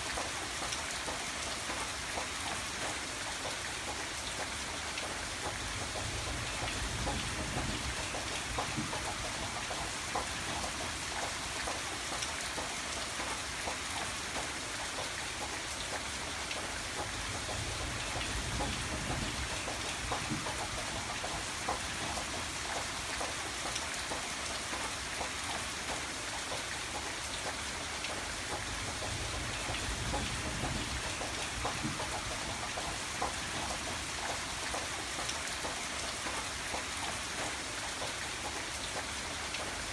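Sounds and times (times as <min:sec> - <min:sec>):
steady rain: 0:00.0 - 0:39.9
raindrop ticks: 0:00.1 - 0:39.9.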